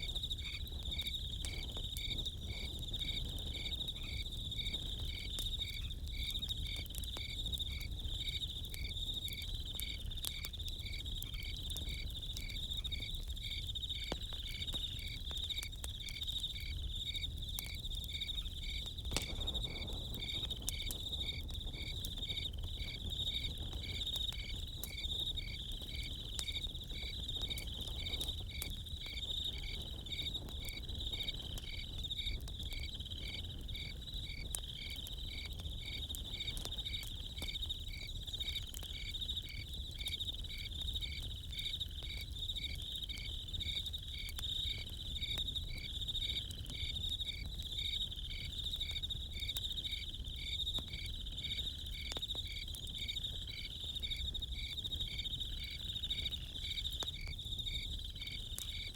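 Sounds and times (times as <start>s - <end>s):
campfire crackling: 0.0s - 58.9s
crickets chirping: 0.0s - 58.9s.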